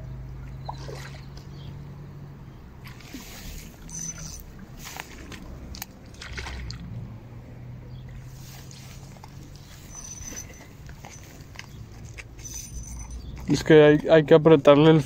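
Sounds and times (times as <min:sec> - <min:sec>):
water sloshing and splashing: 0:00.3 - 0:13.8.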